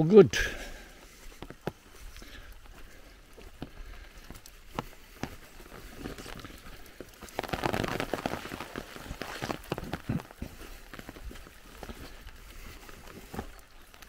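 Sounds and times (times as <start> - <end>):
light rain pattering: 0.0 - 14.0
sharp drips and clicks: 0.4 - 14.0.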